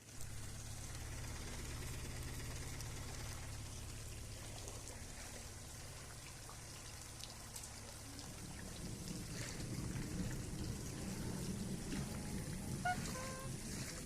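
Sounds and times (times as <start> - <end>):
faint rain falling: 0.0 - 14.0
steady low rumble: 0.0 - 14.0.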